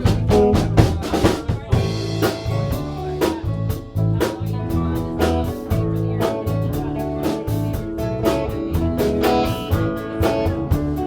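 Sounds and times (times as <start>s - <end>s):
bass line: 0.0s - 11.0s
guitar: 0.0s - 11.0s
steady drum beat: 0.0s - 11.0s.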